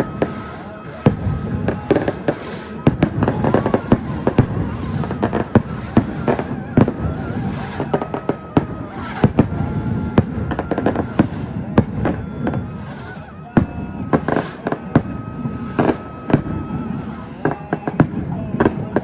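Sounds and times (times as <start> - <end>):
crowd voices: 0.0 - 19.0
firecrackers banging: 0.0 - 19.0.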